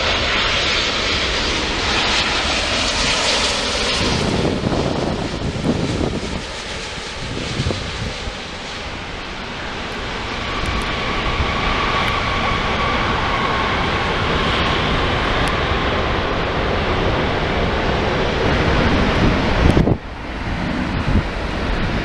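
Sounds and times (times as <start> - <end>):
jet airliner engines roaring: 0.0 - 22.0.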